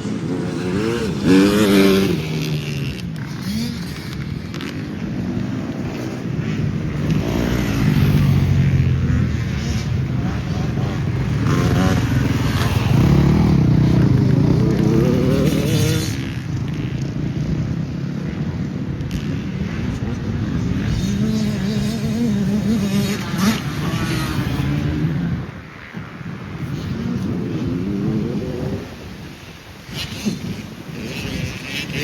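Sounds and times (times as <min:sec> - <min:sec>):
dirt bike engine revving: 0:00.0 - 0:25.9, 0:29.9 - 0:32.0
wind buffeting microphone: 0:00.0 - 0:32.0.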